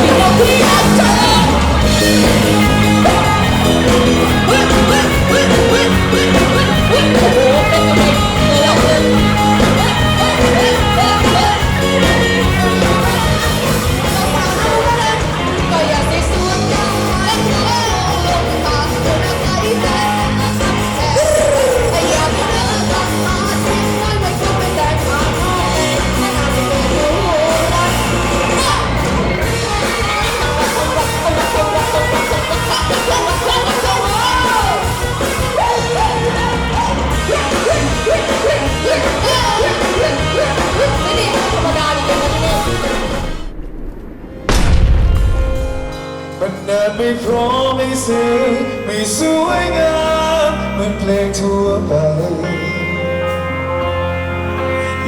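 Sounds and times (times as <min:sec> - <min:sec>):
person singing: 0:00.0 - 0:43.2, 0:46.3 - 0:55.0
live rock band playing: 0:00.0 - 0:43.5, 0:44.4 - 0:55.0.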